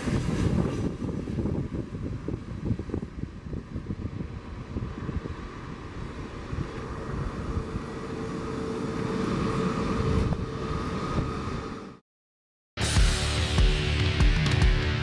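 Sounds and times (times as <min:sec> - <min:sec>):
jet airliner engine rumble and whine: 0:00.0 - 0:12.0.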